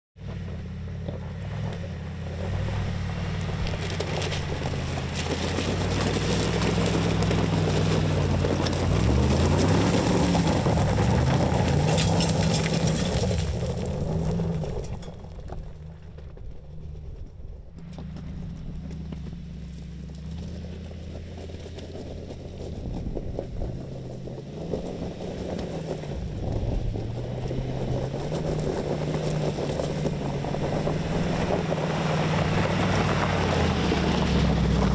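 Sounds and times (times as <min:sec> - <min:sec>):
suv engine revving: 0:00.2 - 0:16.3, 0:17.7 - 0:34.9
tyres on gravel: 0:00.2 - 0:34.9.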